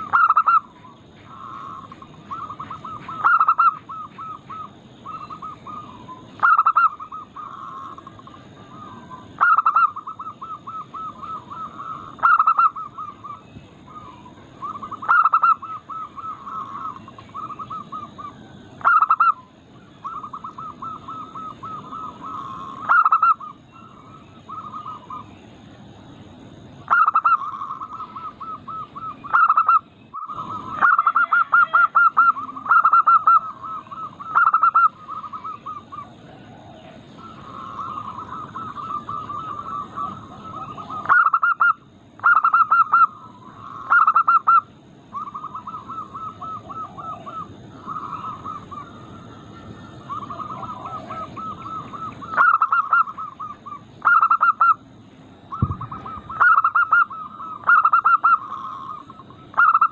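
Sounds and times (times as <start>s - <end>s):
doves cooing loudly: 0.0s - 59.9s
faint bird cooing: 0.0s - 59.9s.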